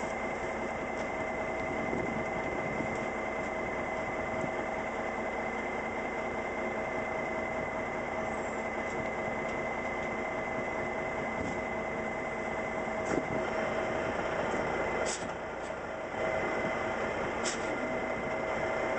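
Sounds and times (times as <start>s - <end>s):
constant high whine: 0.0s - 18.9s
diesel truck engine idling: 0.0s - 18.9s.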